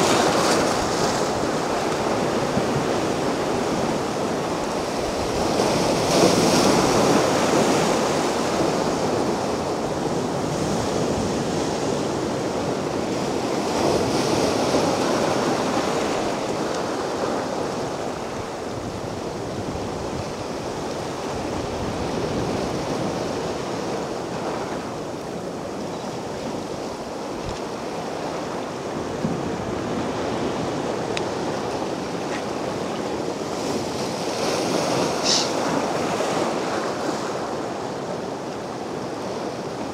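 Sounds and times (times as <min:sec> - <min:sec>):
waves washing onto a beach: 0:00.0 - 0:39.9.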